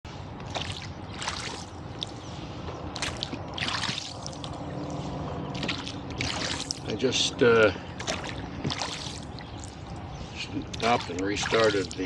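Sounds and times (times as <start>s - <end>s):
low steady rumble: 0.1s - 12.0s
water splashing and trickling: 0.1s - 12.0s.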